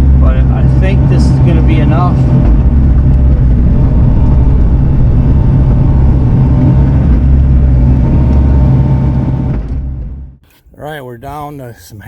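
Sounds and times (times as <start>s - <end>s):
diesel engine running: 0.0s - 11.5s.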